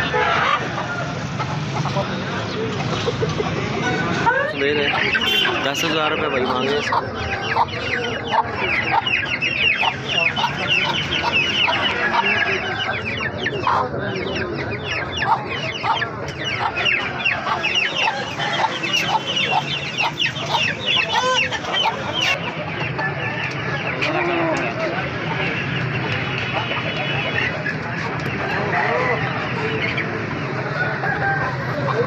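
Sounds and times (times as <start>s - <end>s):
chickens clucking and calling: 0.0s - 32.0s.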